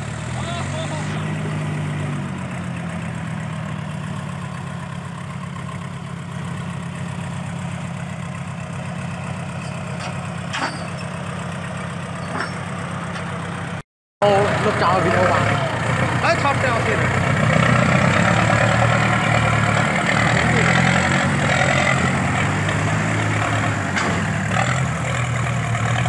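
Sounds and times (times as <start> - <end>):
diesel tractor engine idling: 0.0 - 26.0.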